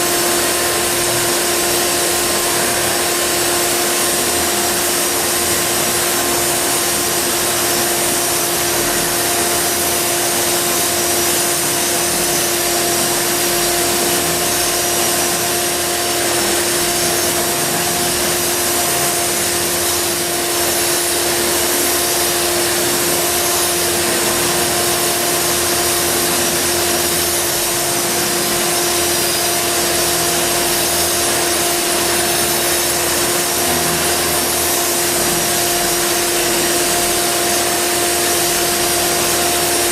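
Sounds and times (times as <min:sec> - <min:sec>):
angle grinder grinding concrete: 0:00.0 - 0:39.9
shop vacuum running: 0:00.0 - 0:39.9.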